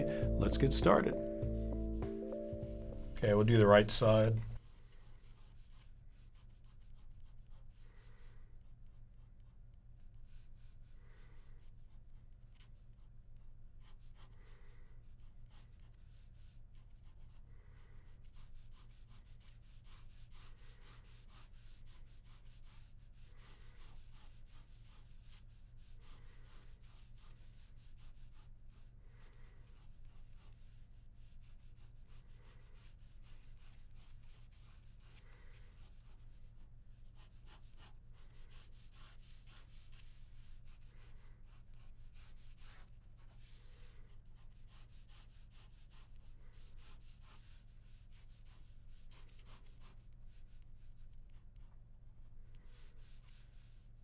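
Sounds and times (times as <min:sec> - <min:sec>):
pen scratching on paper: 0:00.0 - 0:08.7, 0:13.8 - 0:51.8, 0:52.6 - 0:53.9.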